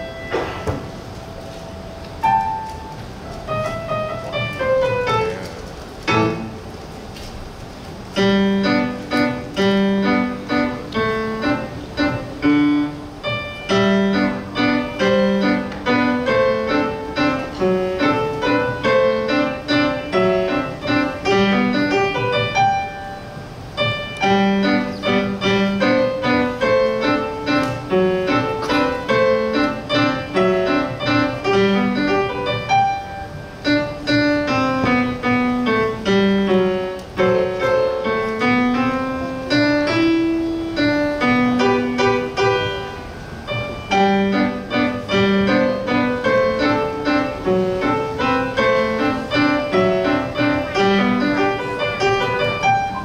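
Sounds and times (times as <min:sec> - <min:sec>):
solo piano piece: 0:00.0 - 0:53.0.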